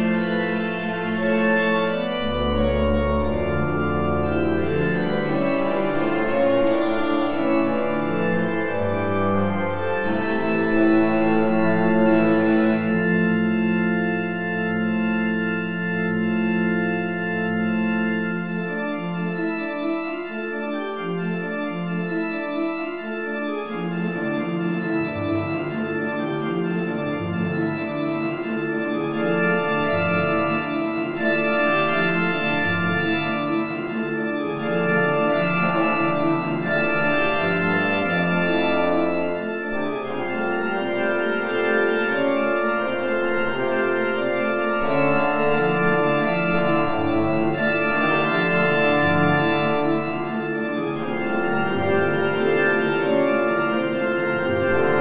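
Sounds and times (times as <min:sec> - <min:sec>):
low organ bass notes: 0:00.0 - 0:55.0
organ playing sustained chords: 0:00.0 - 0:55.0.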